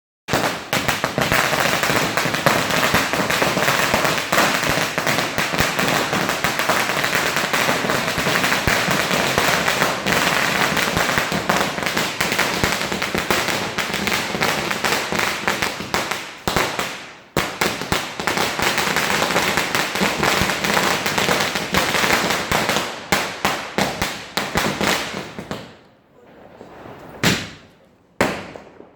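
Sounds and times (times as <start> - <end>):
firecrackers crackling: 0.3 - 28.9.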